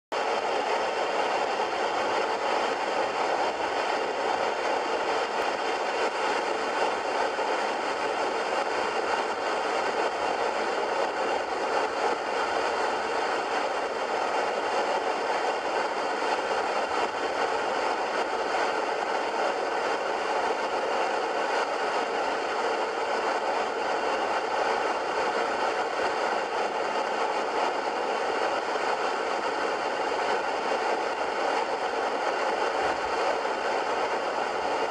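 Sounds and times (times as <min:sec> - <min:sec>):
propeller plane engine drone: 0:00.2 - 0:34.9.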